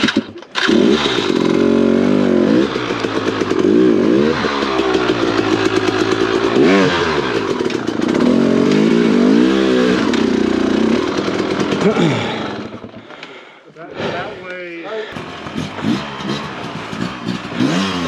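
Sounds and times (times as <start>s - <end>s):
dirt bike engine revving: 0.0s - 13.1s, 15.1s - 18.0s.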